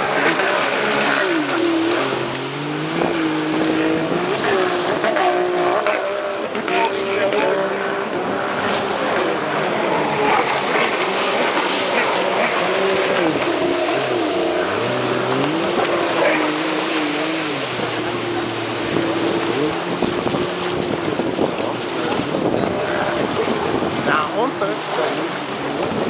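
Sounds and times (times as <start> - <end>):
jet ski engines revving: 0.0 - 26.0.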